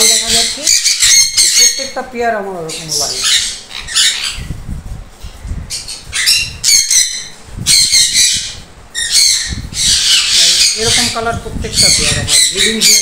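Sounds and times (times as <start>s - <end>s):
parrots screeching: 0.0s - 2.1s, 2.7s - 4.6s, 5.7s - 13.0s.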